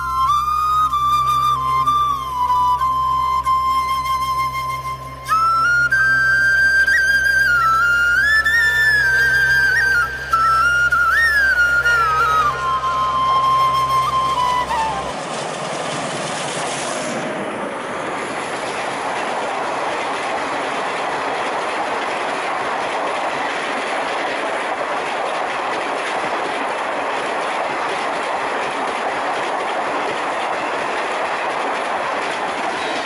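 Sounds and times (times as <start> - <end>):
train passing at high speed: 0.0 - 33.0
wheels clicking over rail joints: 0.0 - 33.0.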